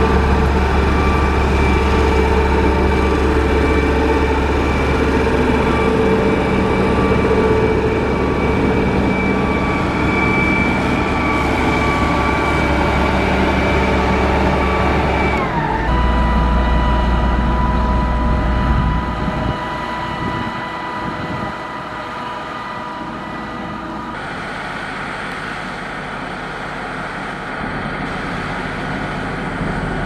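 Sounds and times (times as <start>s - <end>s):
diesel engine running: 0.0s - 30.0s
high whine: 0.0s - 30.0s.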